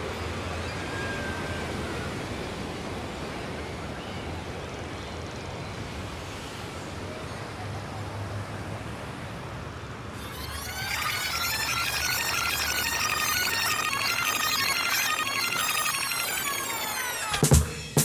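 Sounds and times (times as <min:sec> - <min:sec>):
sea surf: 0:00.0 - 0:18.0.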